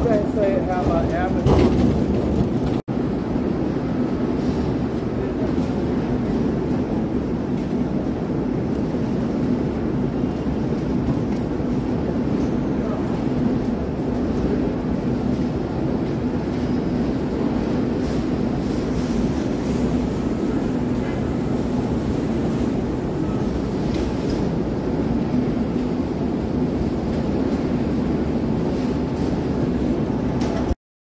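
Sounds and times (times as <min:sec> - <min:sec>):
conveyor machinery humming: 0:00.0 - 0:30.8.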